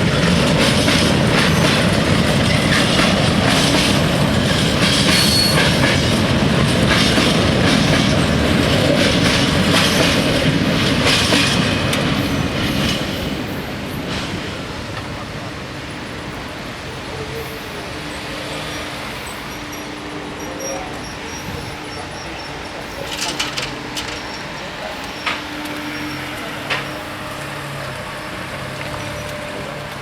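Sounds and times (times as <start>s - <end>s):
train wheel squeal: 0.0s - 13.9s, 17.1s - 30.0s
train wheels clicking over rail joints: 0.0s - 15.2s, 17.3s - 30.0s.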